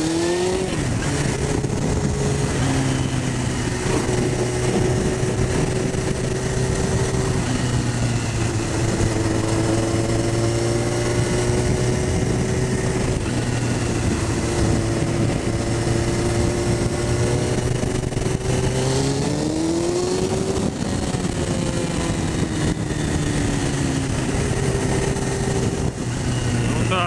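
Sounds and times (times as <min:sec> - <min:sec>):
motorcycle engine revving: 0:00.0 - 0:27.0
wind noise: 0:00.0 - 0:27.0.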